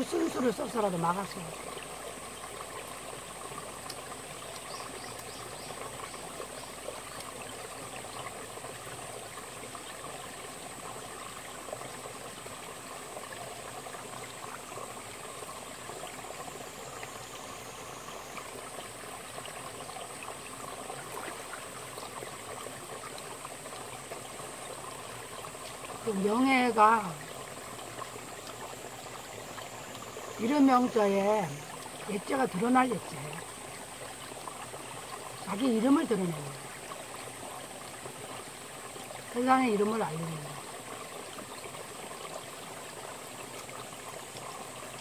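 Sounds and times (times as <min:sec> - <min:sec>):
stream running over rocks: 0:00.0 - 0:45.0.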